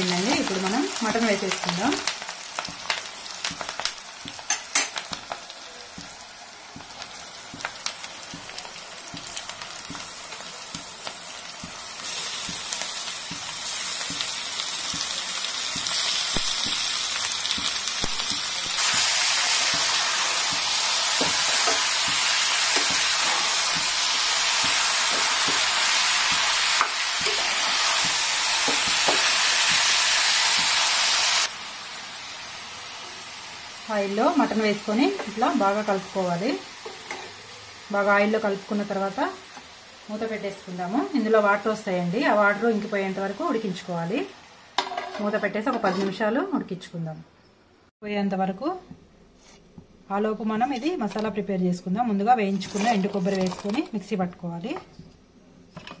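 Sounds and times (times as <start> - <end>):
meat sizzling in hot oil: 0.0 - 44.8.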